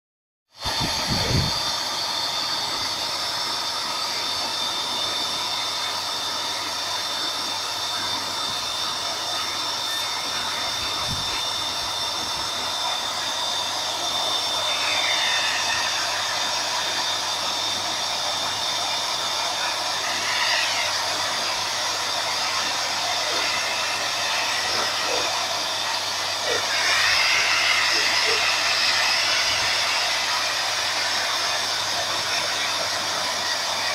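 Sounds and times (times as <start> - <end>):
pet blower rushing air: 0.6 - 33.9.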